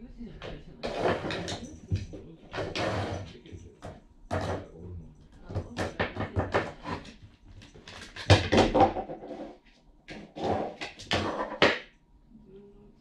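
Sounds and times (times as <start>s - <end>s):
cat knocking bowl on wooden floor: 0.4s - 4.8s, 5.5s - 11.9s.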